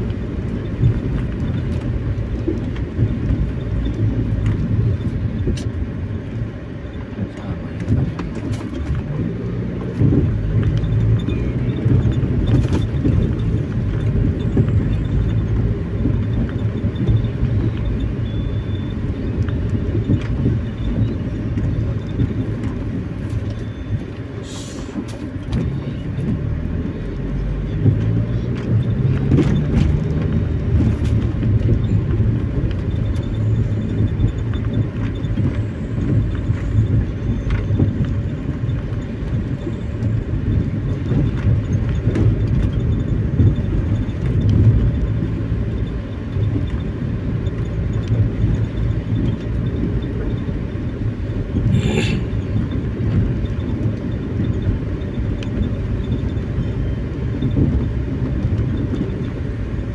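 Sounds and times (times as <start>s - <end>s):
road and engine rumble in cabin: 0.0s - 59.9s.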